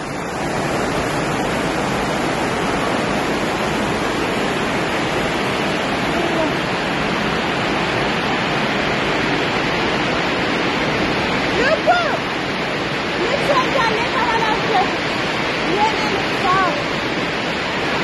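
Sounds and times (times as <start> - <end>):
heavy rain on a roof: 0.0 - 18.0.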